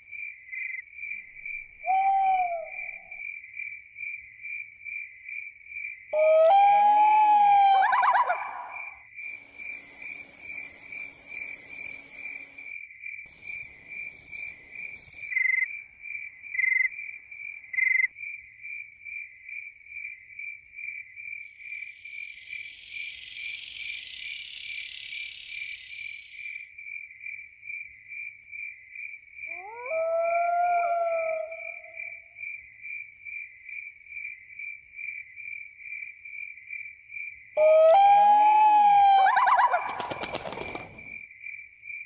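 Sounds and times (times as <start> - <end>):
crickets chirping: 0.0 - 42.0.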